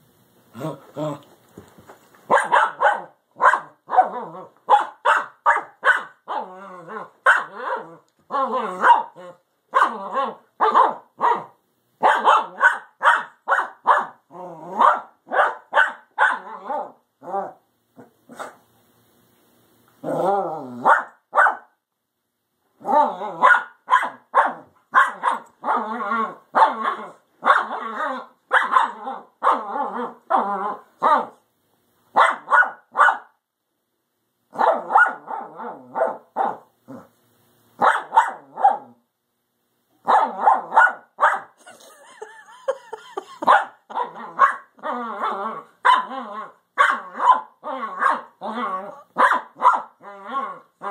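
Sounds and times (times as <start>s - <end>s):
dogs barking and growling: 2.3s - 18.6s, 20.0s - 21.7s, 22.8s - 31.4s, 34.5s - 37.1s, 37.8s - 39.0s, 40.0s - 50.9s.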